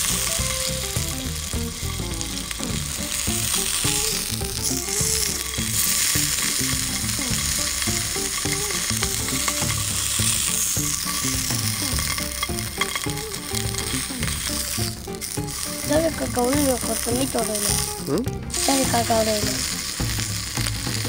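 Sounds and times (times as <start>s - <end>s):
food sizzling in oil: 0.0s - 21.0s
quiet background music: 0.0s - 21.0s.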